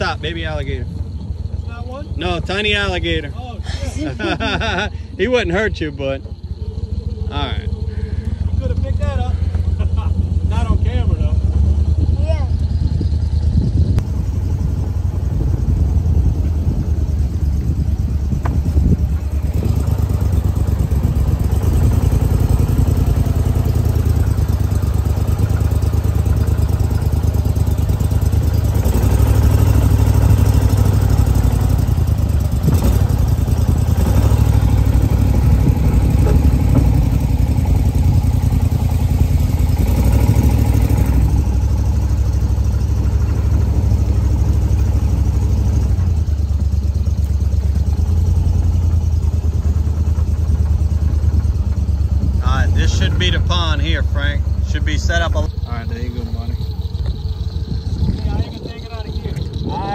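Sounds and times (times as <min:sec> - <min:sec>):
boat motor running: 0:00.0 - 0:59.9.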